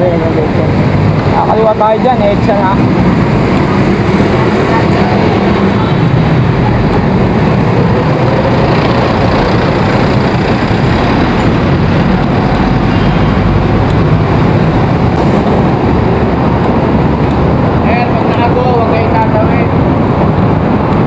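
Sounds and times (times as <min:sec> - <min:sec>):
loud road traffic: 0:00.0 - 0:21.0.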